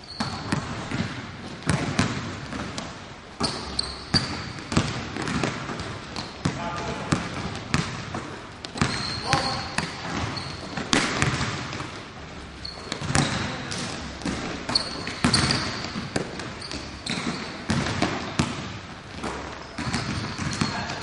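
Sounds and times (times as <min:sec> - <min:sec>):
basketballs bouncing on gym floor: 0:00.0 - 0:21.0
sneakers squeaking on court: 0:00.0 - 0:21.0.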